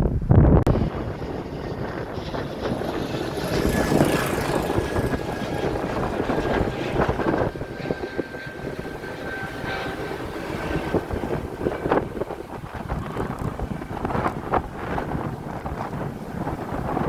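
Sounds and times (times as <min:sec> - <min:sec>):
steady rushing noise: 0:00.0 - 0:17.0
wind buffeting microphone: 0:00.0 - 0:17.0
thin high whine: 0:00.7 - 0:17.0.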